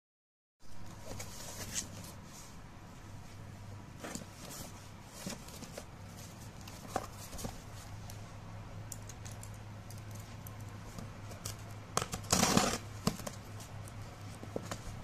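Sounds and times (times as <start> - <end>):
steady low hum: 0.6 - 15.0.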